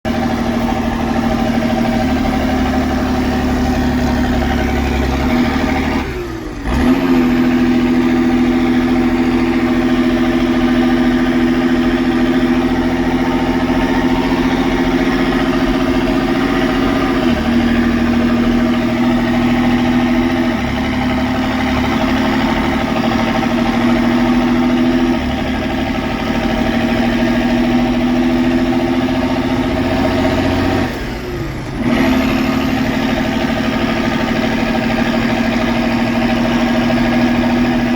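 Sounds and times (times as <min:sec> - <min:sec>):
tractor diesel engine drone: 0:00.0 - 0:37.9.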